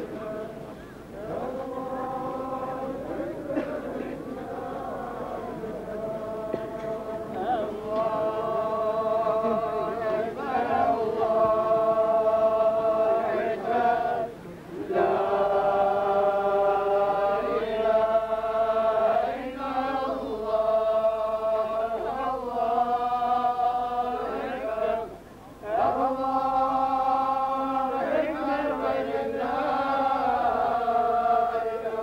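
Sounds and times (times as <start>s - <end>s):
men chanting in unison: 0.0s - 32.0s.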